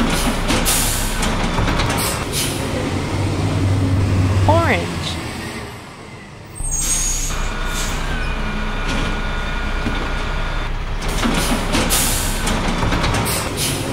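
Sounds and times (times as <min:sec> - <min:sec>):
truck engine running: 0:00.0 - 0:13.9.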